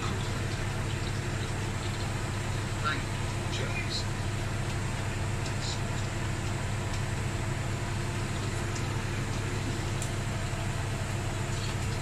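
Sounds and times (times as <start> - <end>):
washing machine humming and whirring: 0.0 - 12.0.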